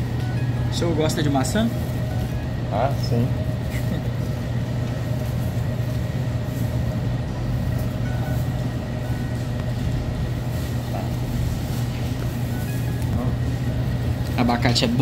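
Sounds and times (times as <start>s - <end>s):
low hum of refrigerated cases: 0.0s - 15.0s.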